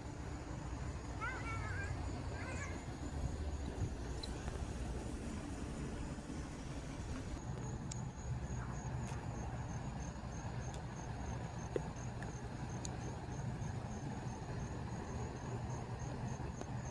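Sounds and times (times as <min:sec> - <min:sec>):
cricket chirping: 0:00.0 - 0:16.9
steady low rumble: 0:01.9 - 0:16.9.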